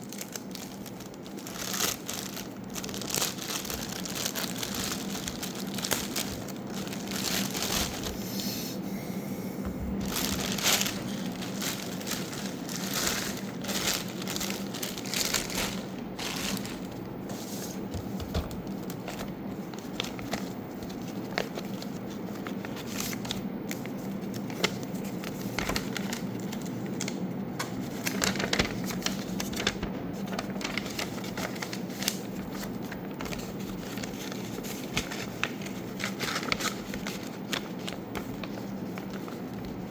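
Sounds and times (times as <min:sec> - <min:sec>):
packaging crinkling and rustling: 0:00.0 - 0:08.5, 0:09.7 - 0:39.9.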